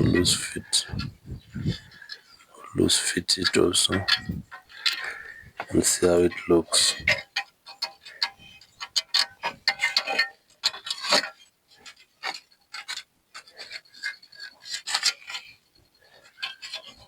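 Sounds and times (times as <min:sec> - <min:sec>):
metal bracket scraping and clicking: 0:00.0 - 0:15.6, 0:16.2 - 0:17.0.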